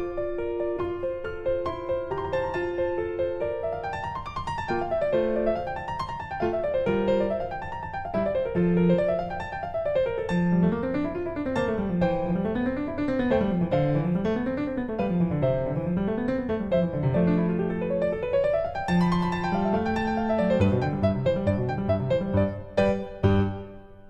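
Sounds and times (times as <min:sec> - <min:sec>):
piano arpeggios: 0:00.0 - 0:24.0.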